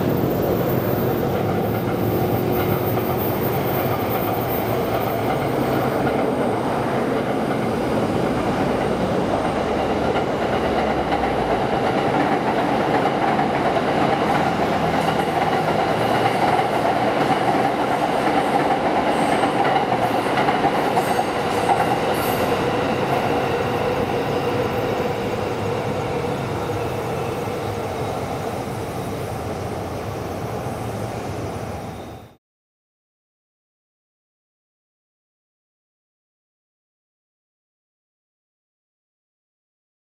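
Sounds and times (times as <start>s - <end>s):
train wheels rumbling on rail: 0.0s - 32.1s.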